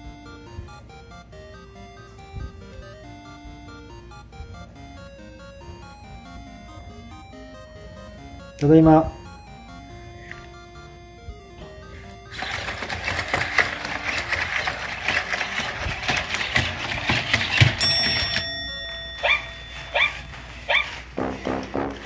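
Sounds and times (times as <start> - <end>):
music: 0.0 - 22.0.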